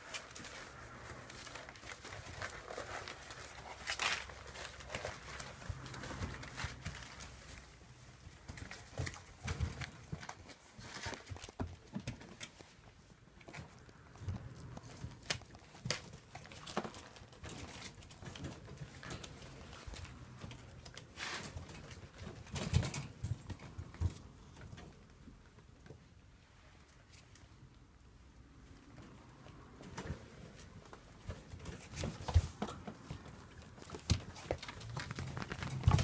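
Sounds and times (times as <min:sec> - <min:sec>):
puppy paws pattering on floor: 0:00.0 - 0:26.2, 0:28.8 - 0:36.0.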